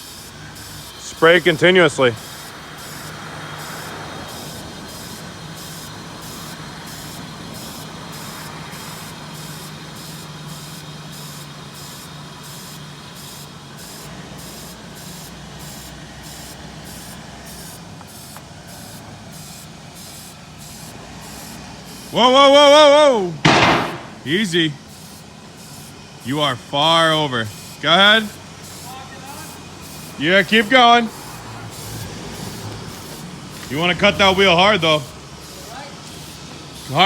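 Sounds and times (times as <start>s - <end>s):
aerosol can hissing: 0.0s - 22.7s, 23.4s - 37.0s
engine running: 0.0s - 37.0s.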